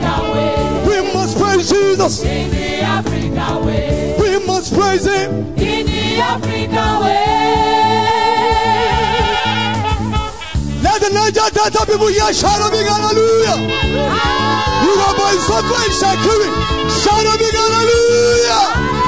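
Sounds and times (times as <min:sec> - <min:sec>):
gospel voices singing: 0:00.0 - 0:10.6, 0:12.0 - 0:19.0
instrumental accompaniment with bass line: 0:00.0 - 0:19.0.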